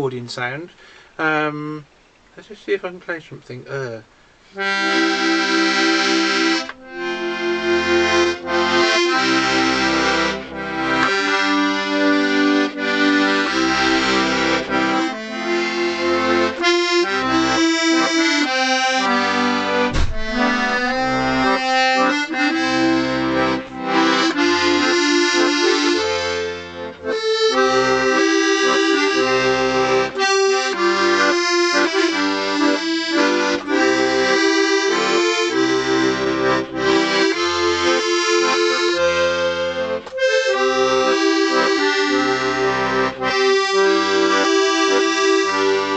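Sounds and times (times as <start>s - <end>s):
accordion playing a tune: 3.8s - 45.9s.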